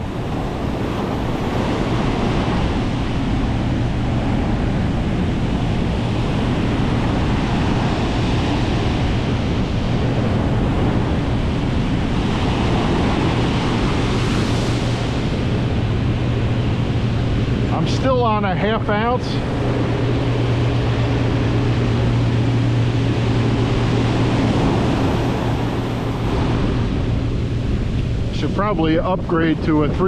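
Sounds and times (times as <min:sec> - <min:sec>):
ocean surf breaking: 0:00.0 - 0:30.0
wind buffeting microphone: 0:00.0 - 0:30.0.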